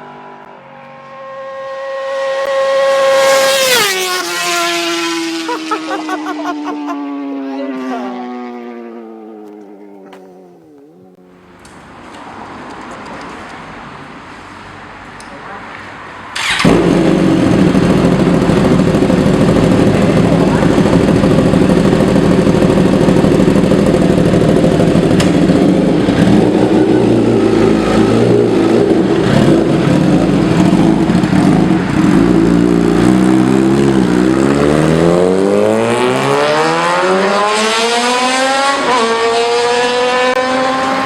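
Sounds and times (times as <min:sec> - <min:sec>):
motorbike engine accelerating: 0:01.1 - 0:11.3, 0:16.4 - 0:41.0.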